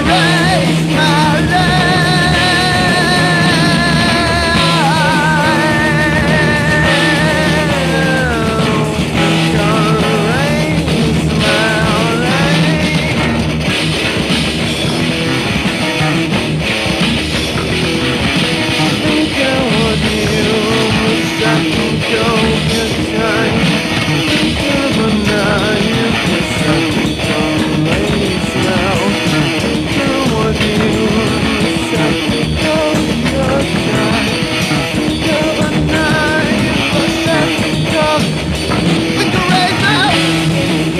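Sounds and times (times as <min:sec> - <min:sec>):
person singing: 0:00.0 - 0:13.6, 0:18.5 - 0:40.9
guitar rock music: 0:00.0 - 0:40.9.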